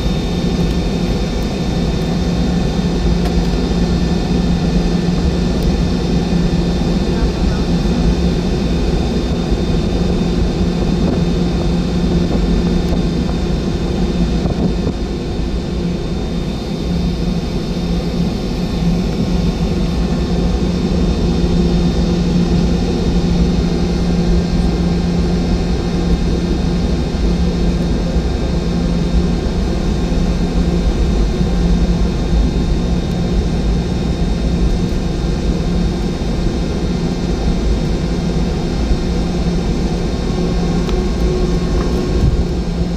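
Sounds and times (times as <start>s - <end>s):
jet engines humming and whining: 0.0s - 42.9s.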